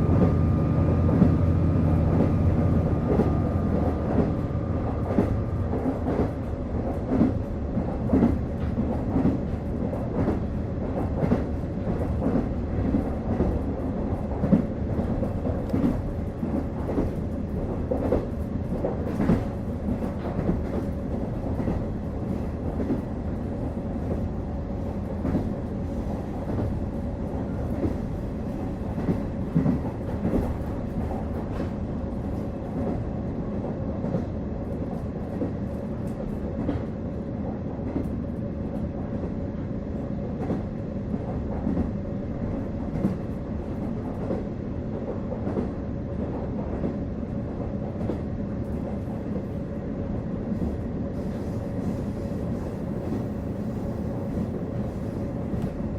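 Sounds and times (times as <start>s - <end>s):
diesel railcar engine drone: 0.0s - 55.9s.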